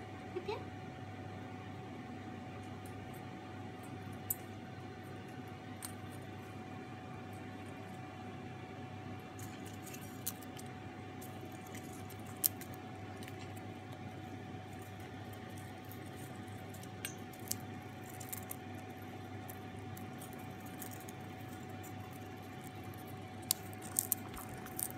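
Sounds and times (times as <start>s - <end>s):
faint hum: 0.0s - 24.9s.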